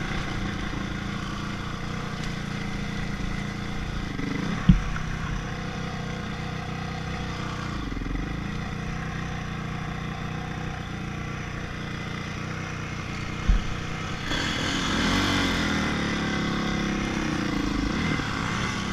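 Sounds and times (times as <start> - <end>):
dirt bike engine running: 0.0 - 18.9.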